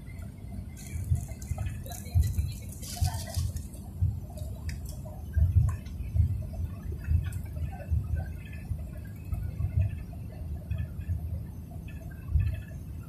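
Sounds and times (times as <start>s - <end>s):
car interior rumble: 0.0s - 13.0s.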